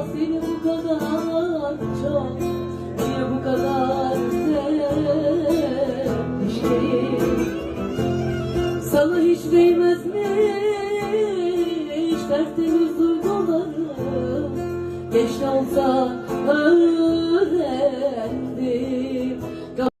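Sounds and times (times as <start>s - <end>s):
acoustic guitar plucked and strummed: 0.0s - 19.9s.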